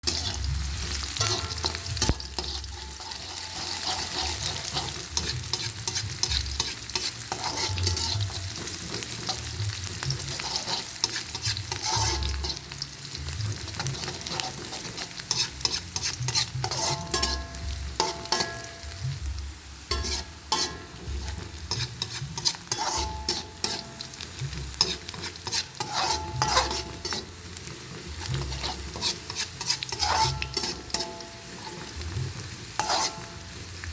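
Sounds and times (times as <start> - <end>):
metal spatula scraping pan: 0.0 - 19.0, 19.9 - 33.8
food sizzling in hot oil: 0.0 - 33.9.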